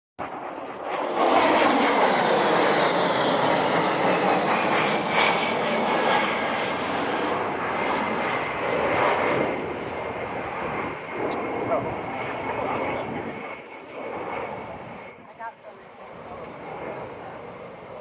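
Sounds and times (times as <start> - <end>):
airplane engine flying past: 0.2 - 18.0.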